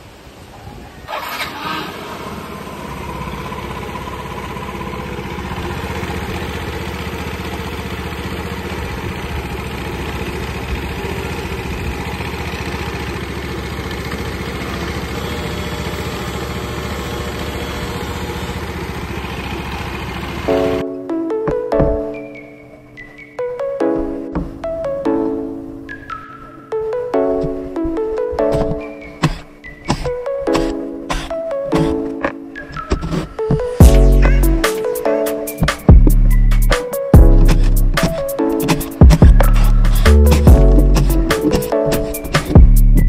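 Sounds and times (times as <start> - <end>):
scooter engine starting and idling: 1.0 - 22.3, 27.3 - 43.0.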